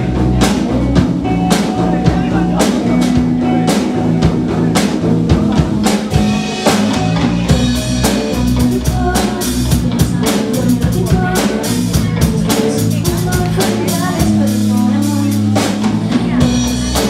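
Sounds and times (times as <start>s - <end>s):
bass line: 0.0s - 17.0s
drum kit beat: 0.0s - 17.0s.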